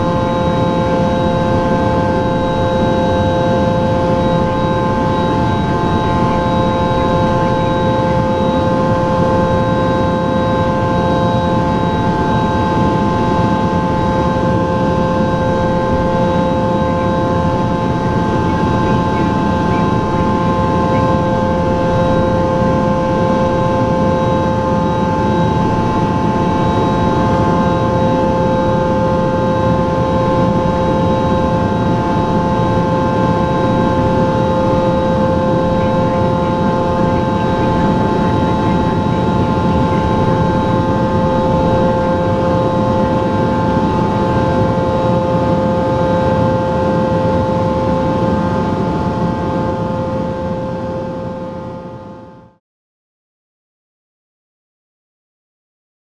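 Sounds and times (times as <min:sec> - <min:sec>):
cabin engine and airflow drone: 0:00.0 - 0:52.6
turbofan engines whining: 0:00.0 - 0:52.6.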